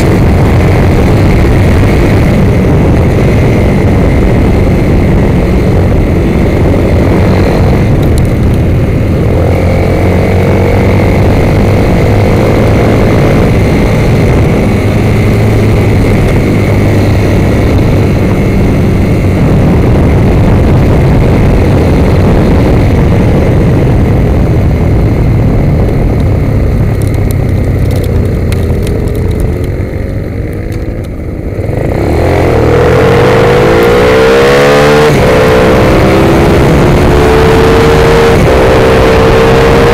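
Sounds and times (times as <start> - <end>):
motorcycle engine revving: 0.0 - 39.9
wind rush over microphone: 0.0 - 39.9.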